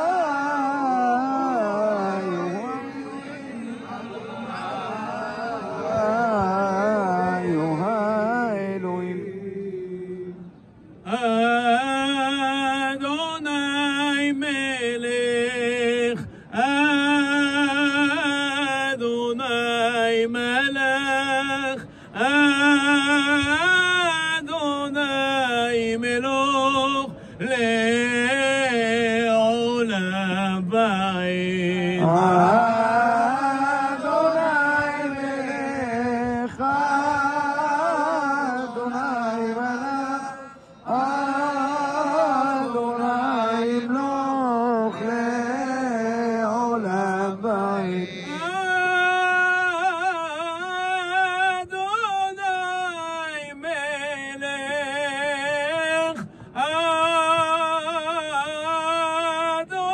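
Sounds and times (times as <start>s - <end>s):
man chanting with trills: 0.0s - 59.9s.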